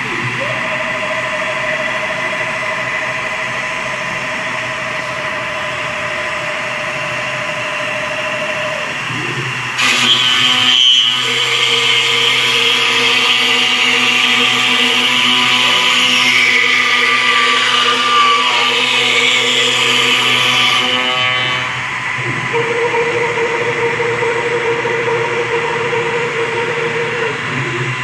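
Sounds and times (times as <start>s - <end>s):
router spindle whine cutting wood: 0.1s - 28.0s.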